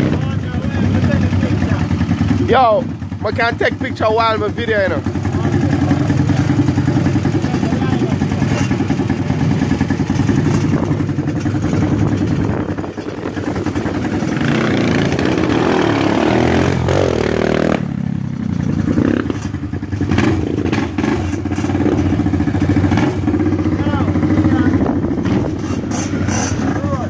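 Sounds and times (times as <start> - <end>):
dirt bike and quad engines running: 0.0 - 27.0
engine revving and pulling away: 0.0 - 27.0.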